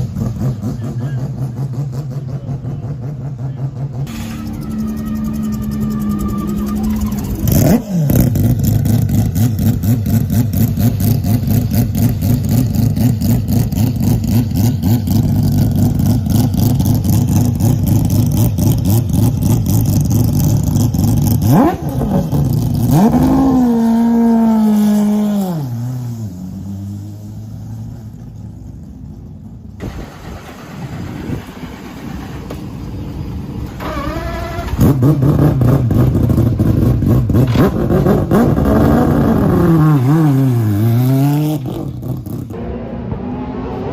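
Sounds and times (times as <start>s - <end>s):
race car engine running high: 0.0s - 43.9s.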